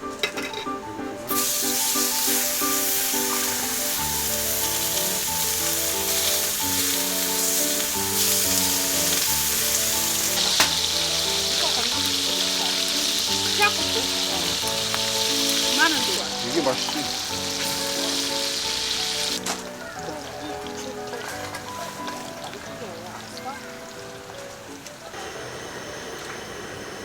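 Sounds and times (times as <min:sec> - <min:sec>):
food sizzling: 0:00.0 - 0:27.0.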